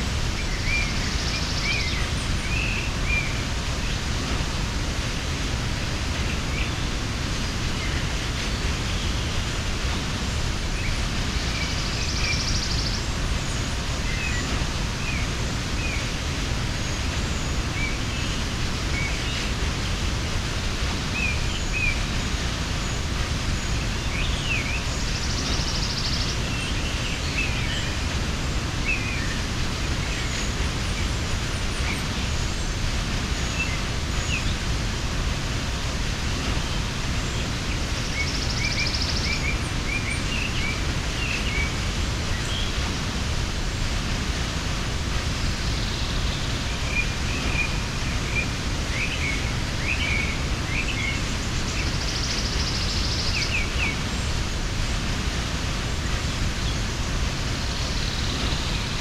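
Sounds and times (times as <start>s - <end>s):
waterfall rushing: 0.0s - 59.0s
small birds chirping: 0.1s - 59.0s.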